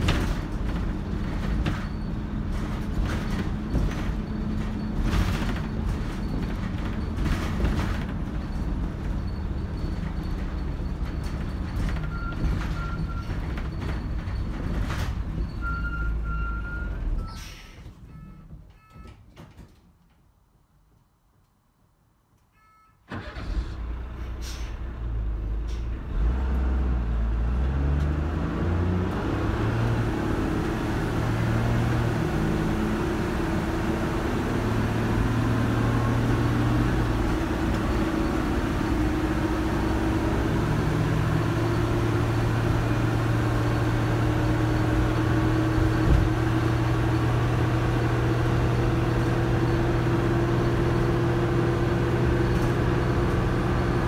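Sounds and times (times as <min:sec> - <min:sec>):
bus diesel engine pulling: 0:00.0 - 0:18.7, 0:23.1 - 0:54.0.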